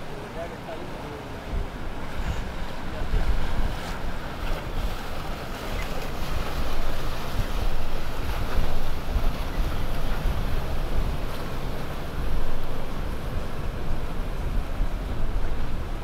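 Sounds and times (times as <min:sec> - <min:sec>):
boat hull wash: 0:00.0 - 0:16.0
wind buffeting microphone: 0:01.4 - 0:16.0.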